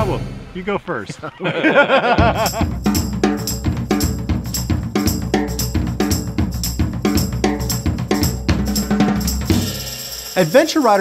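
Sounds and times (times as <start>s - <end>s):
drum kit beat: 0.0s - 1.3s, 2.0s - 11.0s.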